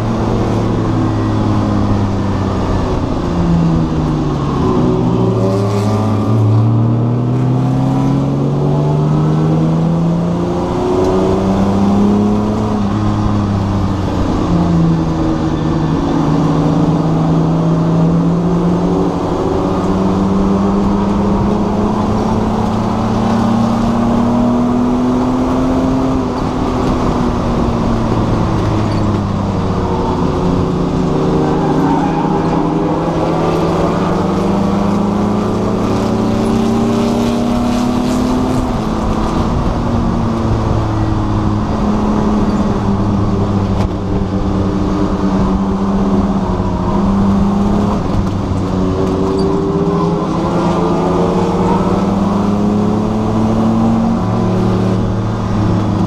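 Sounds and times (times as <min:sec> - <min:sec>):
race car engine: 0:00.0 - 0:56.0
road and wind noise: 0:00.0 - 0:56.0.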